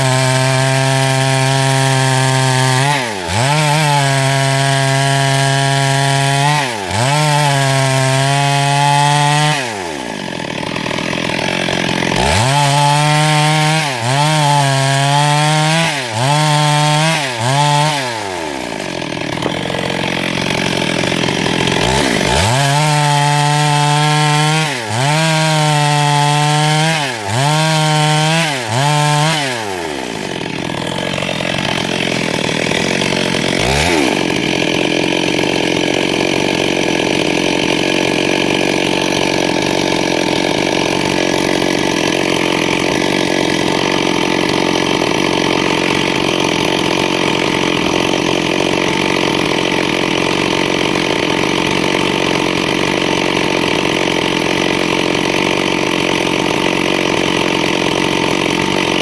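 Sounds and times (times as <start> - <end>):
chainsaw revving through wood: 0.0 - 59.0.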